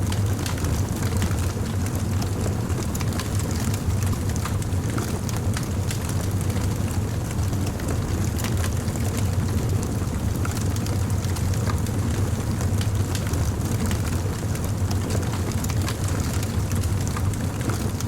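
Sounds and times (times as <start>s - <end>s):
wood fire crackling and popping: 0.1s - 18.0s.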